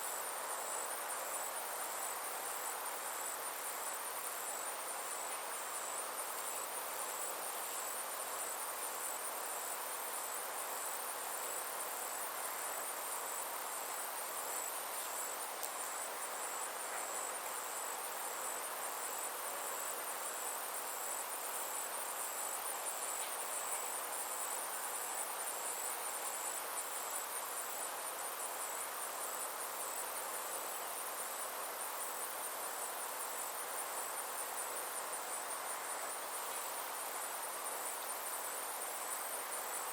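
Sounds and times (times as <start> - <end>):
insects trilling: 0.0 - 39.9
outdoor background hiss: 0.0 - 39.9.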